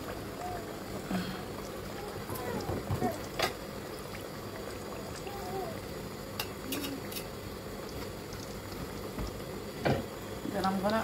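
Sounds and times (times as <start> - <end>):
dough frying in oil: 0.0 - 11.0.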